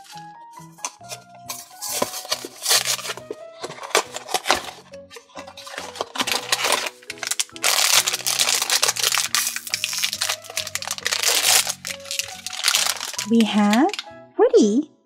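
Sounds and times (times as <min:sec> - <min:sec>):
cardboard box being opened: 0:00.0 - 0:13.2
background music with low notes: 0:00.0 - 0:15.0
foil bag crinkling and tearing: 0:00.9 - 0:14.1.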